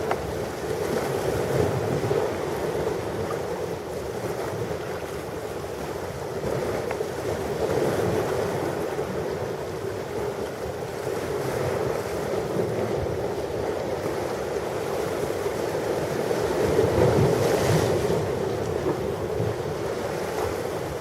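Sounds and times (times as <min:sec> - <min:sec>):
low rumble of wind: 0:00.0 - 0:21.0
ocean waves washing onto shore: 0:00.0 - 0:21.0.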